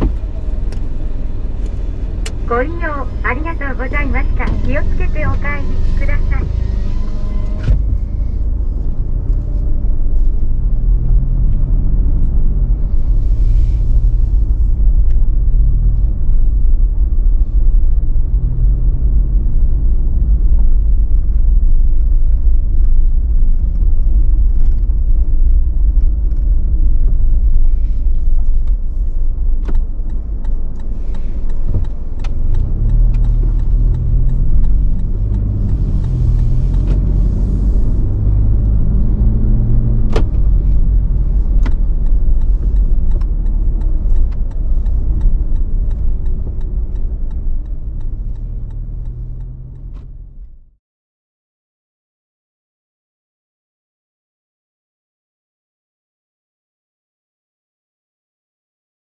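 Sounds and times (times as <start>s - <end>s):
car engine rumble: 0.0s - 50.8s
road noise: 0.0s - 50.8s.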